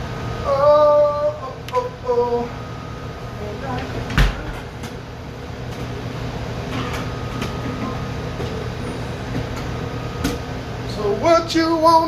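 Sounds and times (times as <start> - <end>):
exhaust hood fan droning: 0.0 - 12.0.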